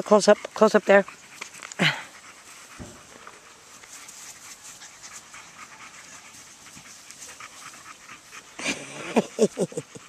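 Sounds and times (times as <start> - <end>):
puppy panting: 0.0 - 10.0.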